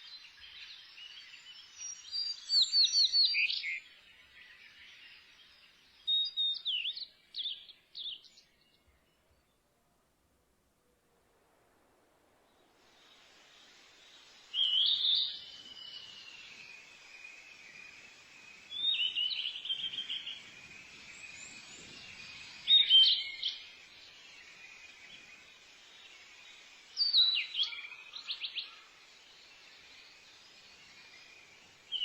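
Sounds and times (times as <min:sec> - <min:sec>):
songbird singing: 0:00.0 - 0:09.7, 0:12.3 - 0:32.0.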